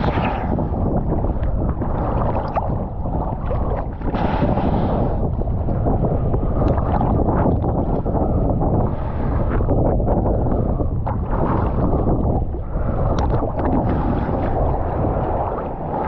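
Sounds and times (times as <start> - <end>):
water splashing and sloshing: 0.0 - 16.0
wind buffeting microphone: 0.0 - 16.0.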